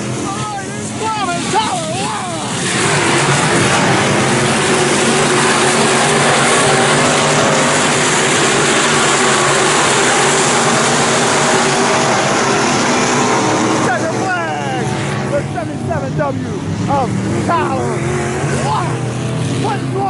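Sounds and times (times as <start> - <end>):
race car engines roaring past: 0.0 - 20.0.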